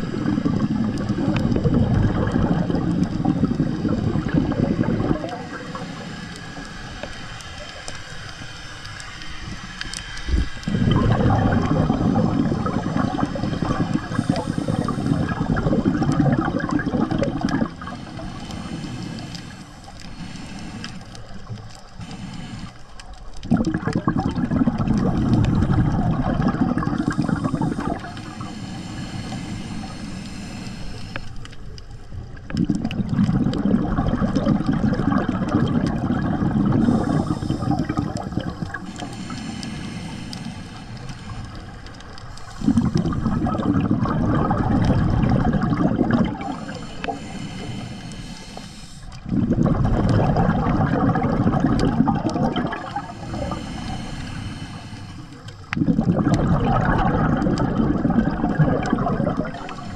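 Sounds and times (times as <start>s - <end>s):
regulator bubbling exhaust underwater: 0.0s - 59.9s.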